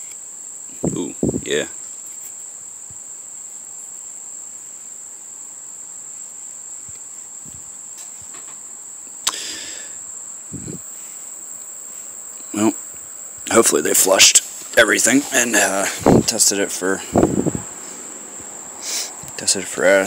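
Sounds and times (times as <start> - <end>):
cricket trilling: 0.0 - 20.0.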